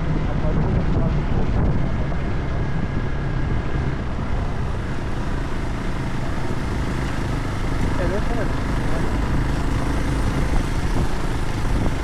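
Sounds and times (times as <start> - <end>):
wind on microphone: 0.0 - 8.0, 9.2 - 12.0
vehicle engine and road noise: 0.0 - 12.0.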